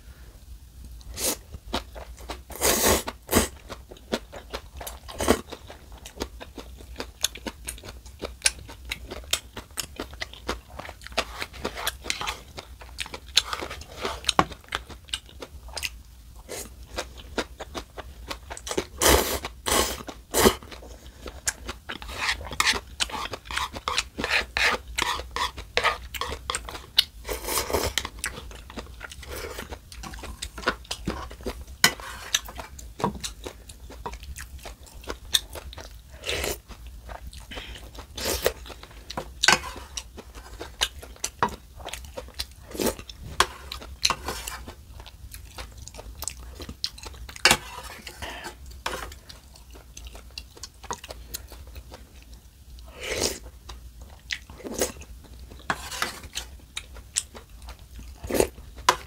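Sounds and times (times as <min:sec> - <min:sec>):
chewing and slurping noodles: 0:01.3 - 0:52.2.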